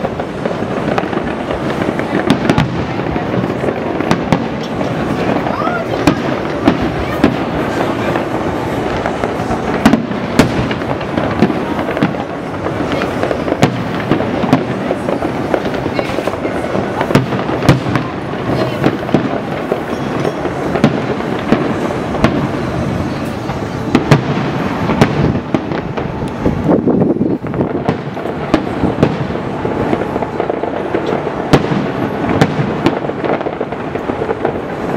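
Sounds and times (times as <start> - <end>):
fireworks rumble and crackle: 0.0 - 34.9
fireworks sharp bangs: 0.0 - 34.9.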